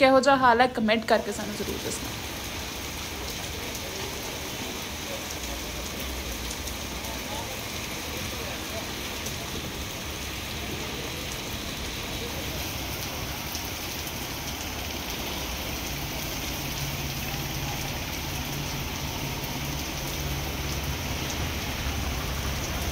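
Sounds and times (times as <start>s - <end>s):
heavy rain on wet road: 0.8s - 22.9s.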